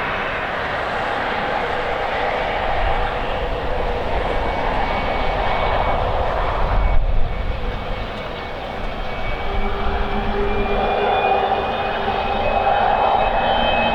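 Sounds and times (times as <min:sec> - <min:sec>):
jet engines running: 0:00.0 - 0:13.9
wind buffeting microphone: 0:00.0 - 0:13.9.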